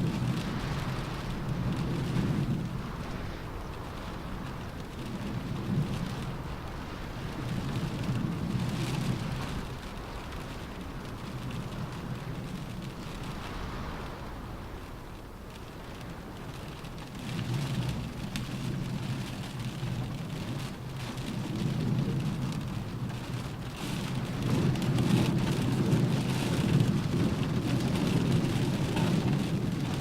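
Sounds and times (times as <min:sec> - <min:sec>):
rain on a car roof: 0:00.0 - 0:30.0.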